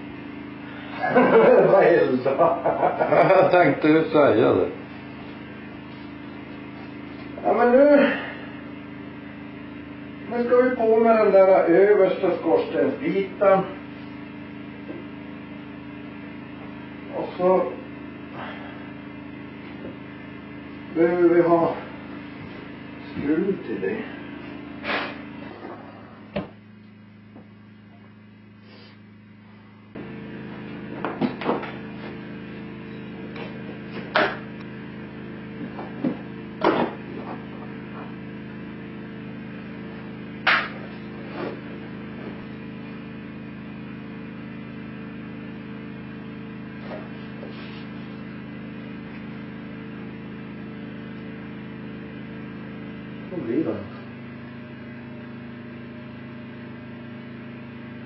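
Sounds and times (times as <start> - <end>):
mechanical hum: 0.0 - 58.0.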